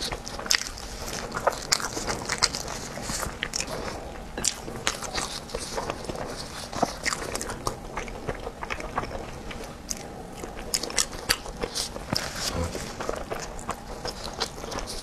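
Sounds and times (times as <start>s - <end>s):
close chewing with mouth clicks: 0.0s - 15.0s.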